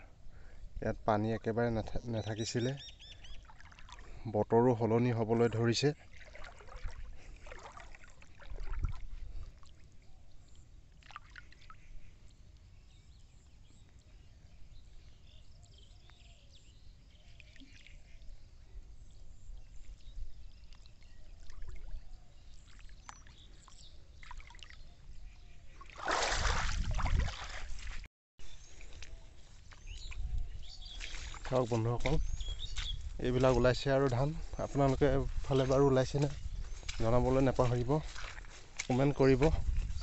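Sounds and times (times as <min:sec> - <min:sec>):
floodwater trickling and sloshing: 0:02.4 - 0:14.2, 0:16.9 - 0:40.0.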